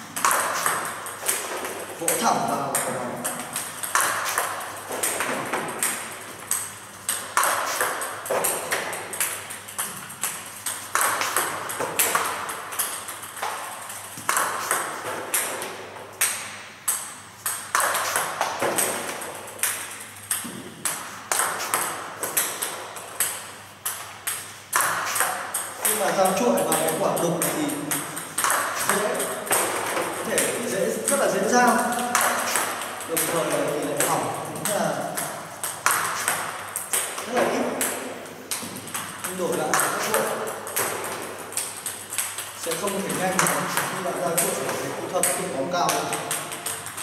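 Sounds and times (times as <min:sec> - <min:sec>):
balls bouncing on floor: 0:00.0 - 0:47.0
table tennis ball on paddle and table: 0:00.0 - 0:47.0.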